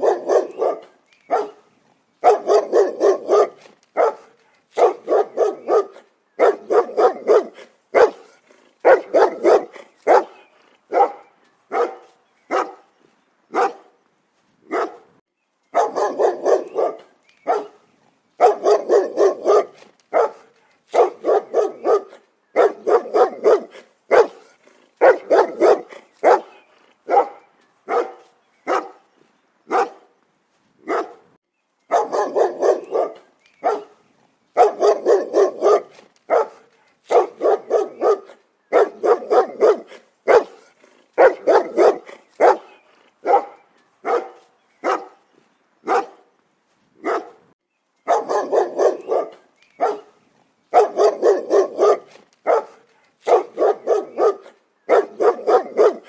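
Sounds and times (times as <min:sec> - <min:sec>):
dog barking: 0:00.0 - 0:12.9, 0:13.5 - 0:14.0, 0:14.7 - 0:15.1, 0:15.7 - 0:17.8, 0:18.4 - 0:29.0, 0:29.7 - 0:30.1, 0:30.8 - 0:31.3, 0:31.9 - 0:34.0, 0:34.6 - 0:45.2, 0:45.8 - 0:46.3, 0:47.0 - 0:47.4, 0:48.1 - 0:56.0.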